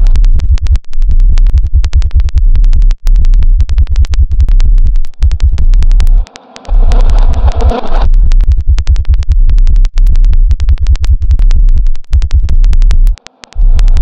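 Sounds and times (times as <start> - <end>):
distorted bass pulse: 0.0 - 14.0
rapid electronic clicks: 0.0 - 14.0.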